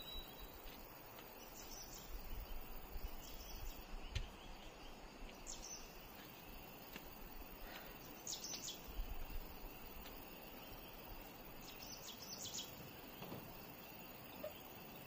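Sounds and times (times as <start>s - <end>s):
birds chirping: 0.0s - 15.0s
faint insect drone: 0.0s - 15.0s
outdoor background hiss: 0.0s - 15.0s.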